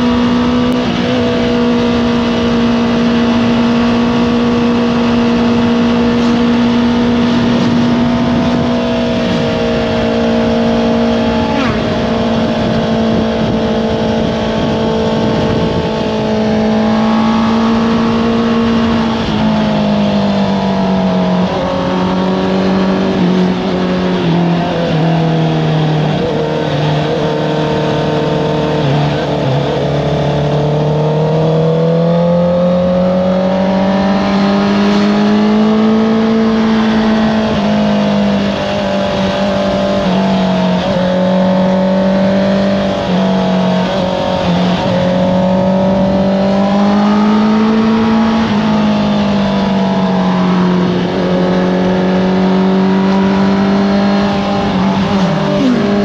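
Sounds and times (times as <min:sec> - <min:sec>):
motorcycle engine: 0:00.0 - 0:56.0
wind noise: 0:00.0 - 0:56.0.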